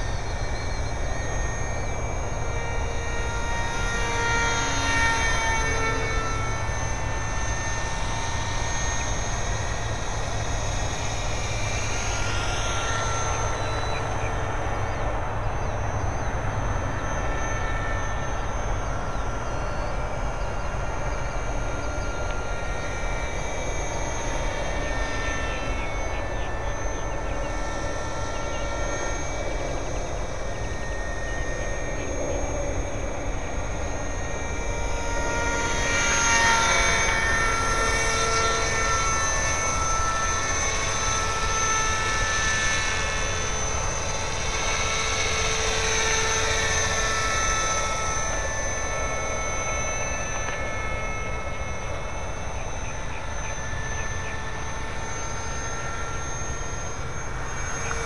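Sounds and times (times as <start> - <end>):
rc helicopter motor whine: 0.0 - 58.0.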